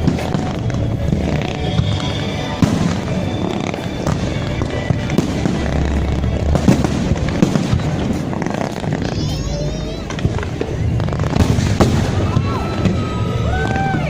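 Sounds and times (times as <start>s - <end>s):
fireworks bursting: 0.0s - 14.0s
music playing: 0.0s - 14.0s.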